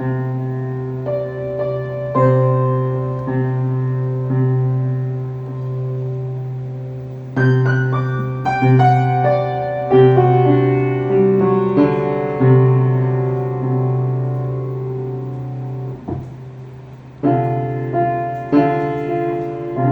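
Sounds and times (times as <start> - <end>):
slow piano music: 0.0 - 19.9.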